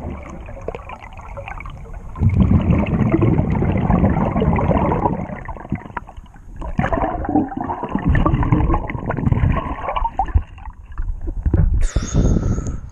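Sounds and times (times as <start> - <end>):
underwater bubbling and gurgling: 0.0 - 12.4.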